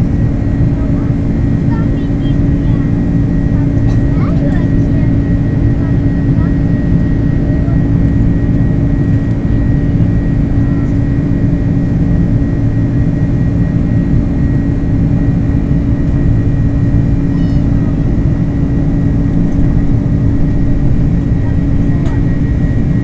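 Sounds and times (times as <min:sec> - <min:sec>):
jet engine cabin drone: 0:00.0 - 0:23.0.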